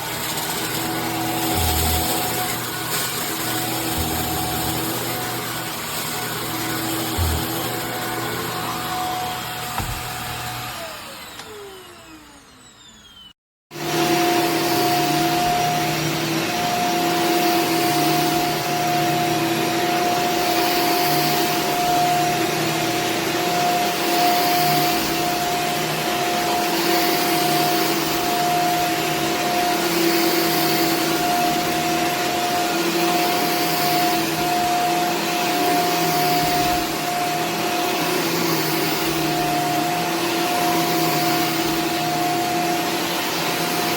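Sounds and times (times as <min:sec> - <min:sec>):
vacuum cleaner motor whine: 0:00.0 - 0:43.9.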